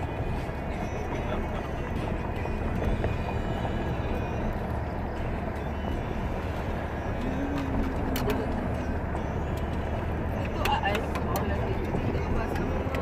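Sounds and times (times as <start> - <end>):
tyres and engine rumble: 0.0 - 13.0.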